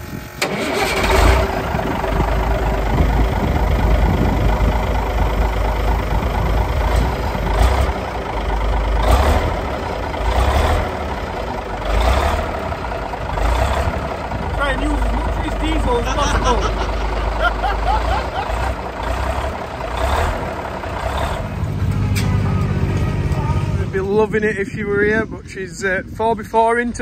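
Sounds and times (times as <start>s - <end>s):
diesel engine rumbling: 0.0s - 27.0s.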